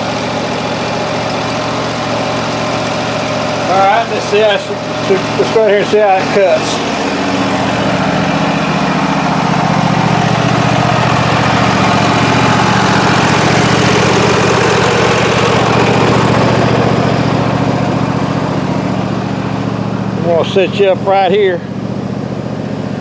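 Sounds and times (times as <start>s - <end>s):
mower blades cutting grass: 0.0s - 23.0s
riding mower engine hum: 0.0s - 23.0s.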